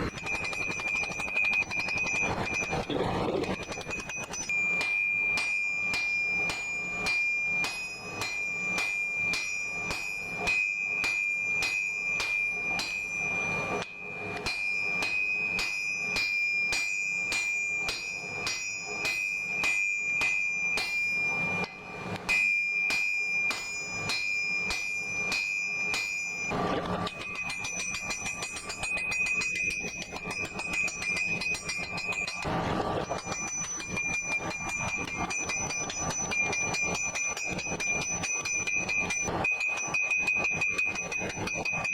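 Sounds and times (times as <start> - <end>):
anvil ringing: 0.0 - 41.9
hammer striking steel on anvil: 0.0 - 41.9.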